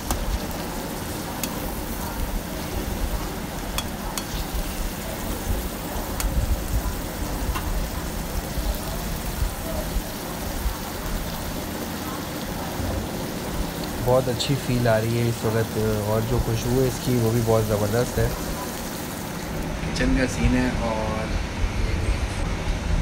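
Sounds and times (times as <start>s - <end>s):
meat sizzling in a pan: 0.0s - 19.8s.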